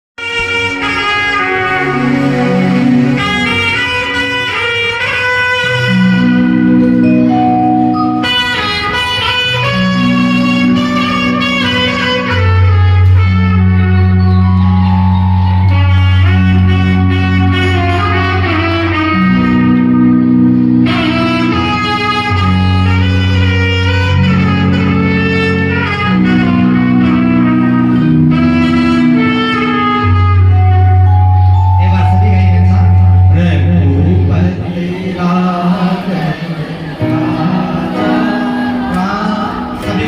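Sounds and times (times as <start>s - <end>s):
loud instrumental music: 0.2s - 40.0s.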